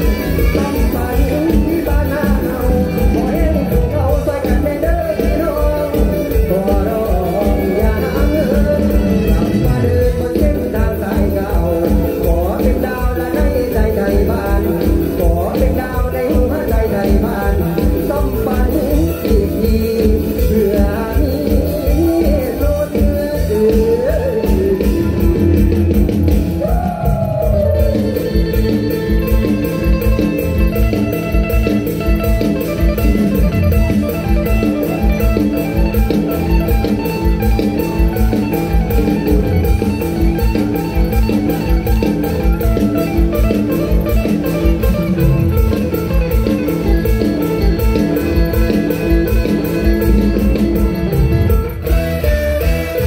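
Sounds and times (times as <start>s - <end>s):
live band playing fast beat: 0.0s - 53.0s.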